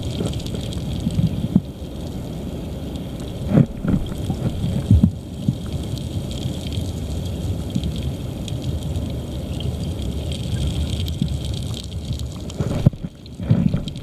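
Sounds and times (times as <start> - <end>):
underwater river current rumble: 0.0 - 14.0.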